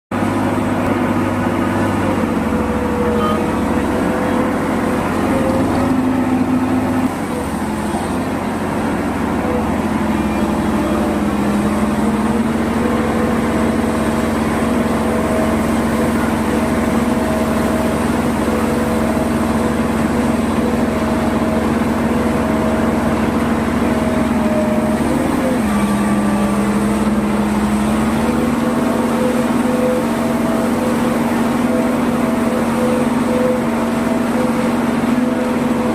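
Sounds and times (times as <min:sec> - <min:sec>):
diesel engine running loudly: 0:00.1 - 0:35.9.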